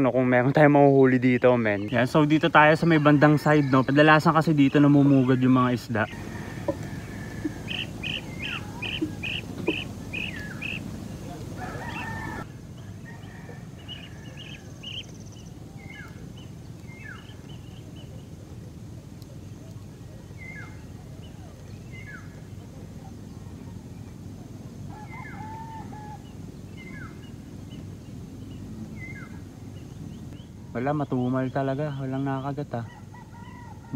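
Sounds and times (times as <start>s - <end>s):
birds calling: 0.0s - 33.9s
low outdoor background: 0.0s - 33.9s.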